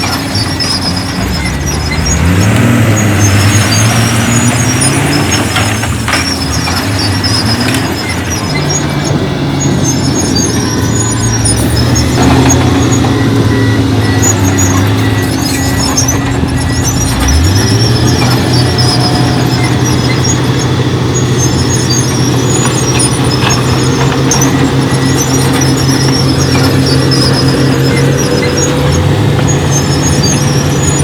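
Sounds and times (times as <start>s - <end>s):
heavy diesel engine revving: 0.0s - 31.0s
high-pitched squealing: 0.0s - 31.0s.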